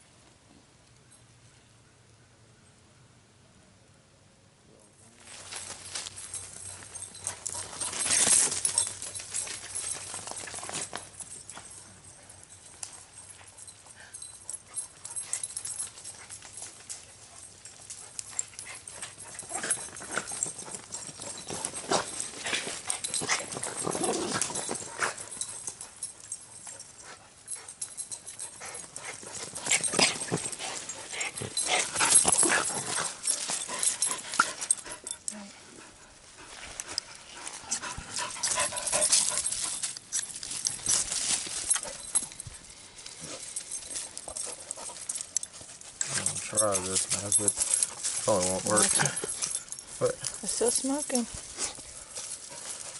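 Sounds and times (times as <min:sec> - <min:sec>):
rustling of dry leaves: 0:05.0 - 0:52.9
dog sniffing and panting: 0:06.0 - 0:52.9.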